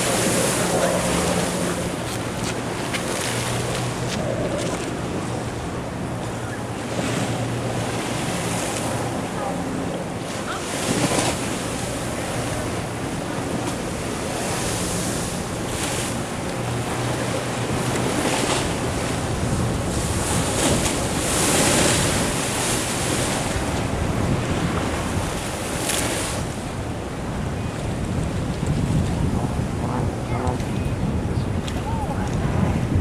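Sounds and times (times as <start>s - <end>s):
ocean surf washing ashore: 0.0s - 33.0s
wind buffeting microphone: 0.0s - 33.0s.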